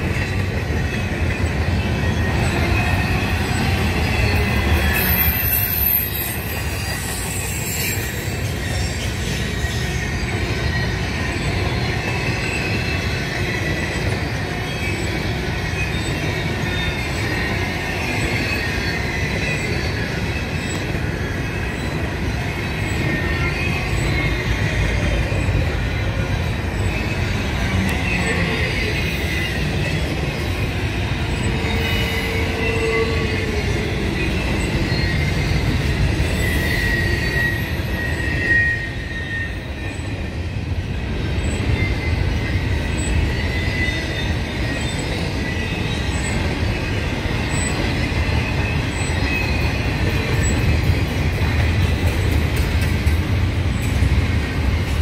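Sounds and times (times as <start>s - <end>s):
wheel squeal: 0.0s - 40.4s, 41.1s - 55.0s
freight train wheels rumbling: 0.0s - 55.0s.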